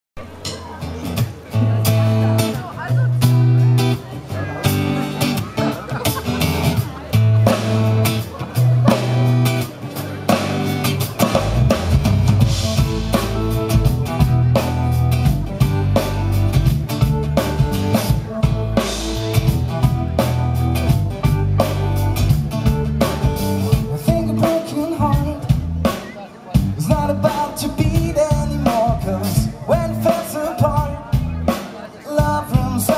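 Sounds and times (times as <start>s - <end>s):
electric bass guitar: 0.2s - 31.6s, 32.2s - 32.9s
acoustic guitar: 0.2s - 32.9s
drum kit: 0.2s - 32.9s.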